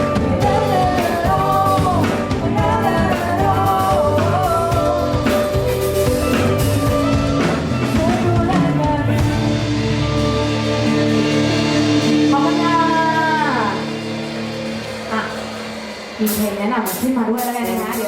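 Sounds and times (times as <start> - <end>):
wavering melodic lead line: 0.0 - 16.7
drum kit: 0.0 - 18.0
guitar: 0.0 - 18.0
live band playing pop-rock: 0.0 - 18.0.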